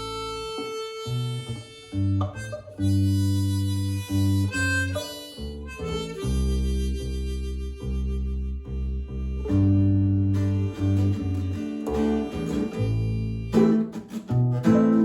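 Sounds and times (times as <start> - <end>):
acoustic guitar accompaniment: 0.0 - 15.0
harmonica playing held notes: 0.0 - 15.0.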